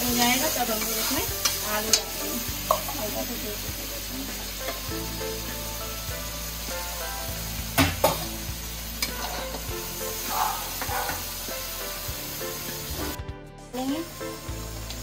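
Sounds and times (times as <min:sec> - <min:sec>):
paste sizzling in oil: 0:00.0 - 0:13.2.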